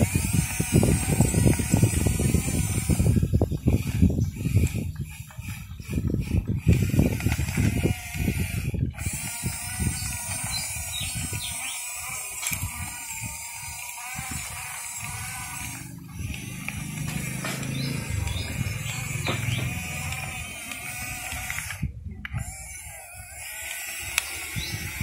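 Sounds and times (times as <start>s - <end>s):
motor whine: 0.0s - 25.0s
toy tracks and gears clicking: 0.0s - 25.0s.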